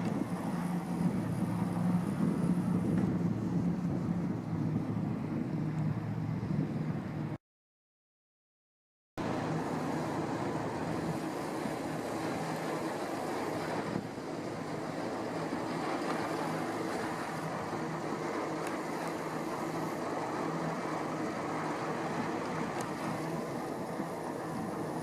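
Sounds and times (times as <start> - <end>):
boat engine droning: 0.0 - 7.4, 9.2 - 25.0
water noise: 0.0 - 7.4, 9.2 - 25.0
wind: 0.0 - 7.4, 9.2 - 25.0.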